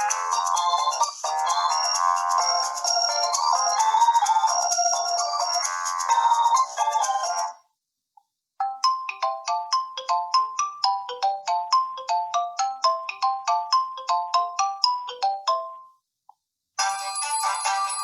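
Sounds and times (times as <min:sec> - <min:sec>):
phone ringtone melody: 0:00.0 - 0:07.6, 0:08.6 - 0:16.0, 0:16.8 - 0:18.0.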